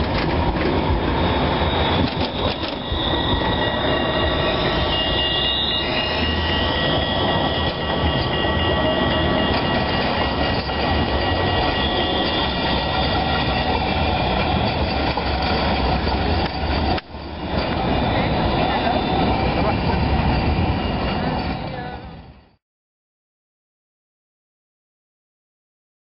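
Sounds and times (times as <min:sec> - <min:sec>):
tram wheels rumbling on rail: 0:00.0 - 0:22.6
high wheel squeal: 0:01.1 - 0:22.5.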